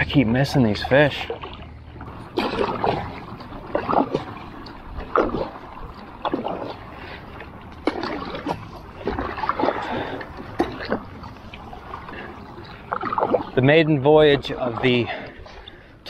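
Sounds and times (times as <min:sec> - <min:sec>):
paddle splashing in water: 0:00.0 - 0:15.9.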